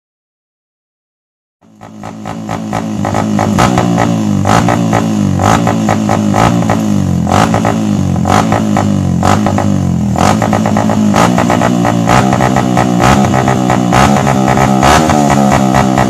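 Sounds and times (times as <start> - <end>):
motorcycle engine revving: 1.6 - 16.0.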